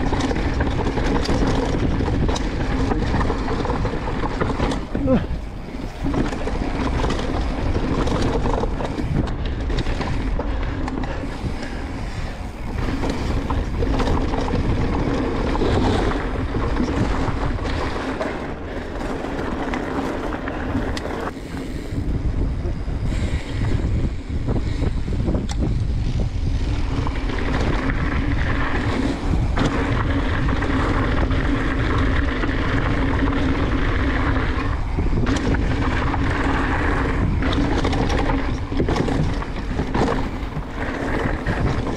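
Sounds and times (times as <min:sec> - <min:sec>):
bike rattling: 0:00.0 - 0:41.9
bike tyres rumbling on dirt: 0:00.0 - 0:41.9
wind buffeting microphone: 0:00.0 - 0:41.9.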